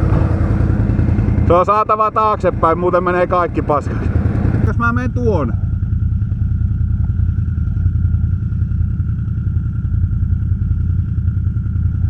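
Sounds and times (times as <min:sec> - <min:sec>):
atv engine running at low revs: 0:00.0 - 0:12.0.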